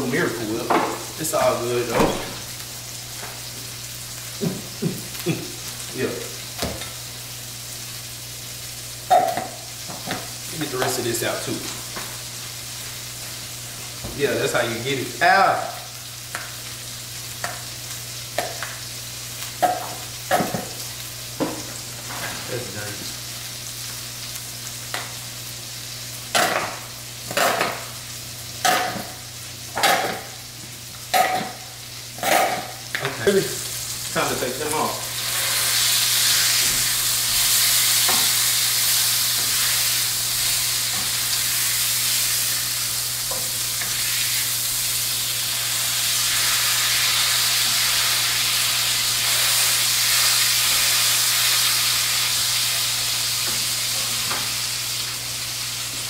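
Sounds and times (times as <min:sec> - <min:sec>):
food sizzling in hot pan: 0:00.0 - 0:56.0.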